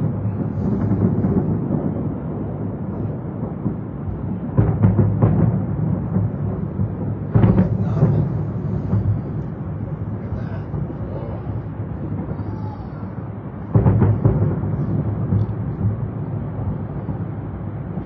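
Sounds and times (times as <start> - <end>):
distant fireworks booming: 0.0 - 18.0
sharp firework bangs: 0.0 - 18.0.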